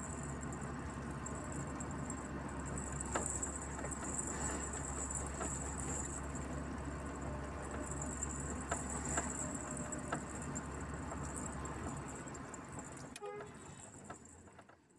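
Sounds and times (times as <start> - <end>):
rattles and clicks: 0.0 - 14.9
truck engine drone: 0.0 - 14.9.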